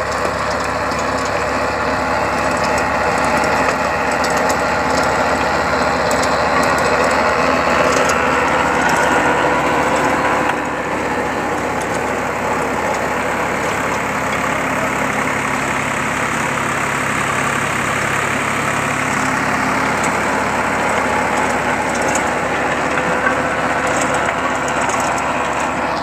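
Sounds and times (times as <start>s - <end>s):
tiller blades churning soil: 0.0s - 26.0s
tractor diesel engine running: 0.0s - 26.0s.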